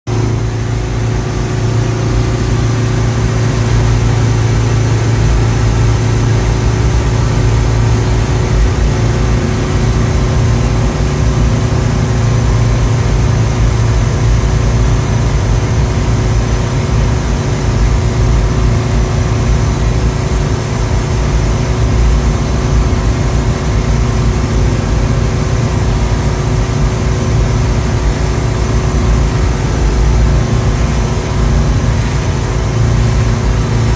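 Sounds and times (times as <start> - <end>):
boat engine humming: 0.1 - 33.9
rush of wind and water: 0.1 - 33.9.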